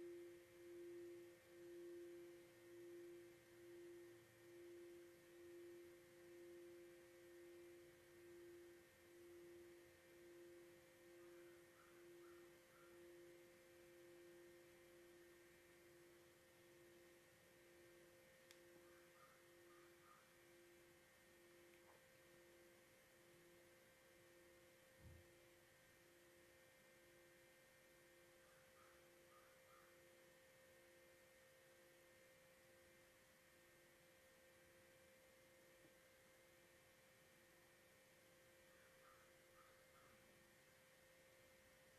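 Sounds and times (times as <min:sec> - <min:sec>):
higher steady ringing tone: 0:00.0 - 0:41.9
pulsing ringing tone: 0:00.0 - 0:41.9.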